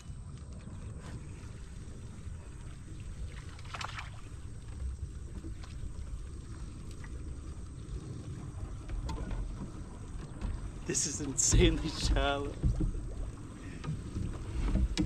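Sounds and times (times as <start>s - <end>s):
low steady rumble: 0.0s - 15.0s
water lapping against hull: 0.0s - 15.0s.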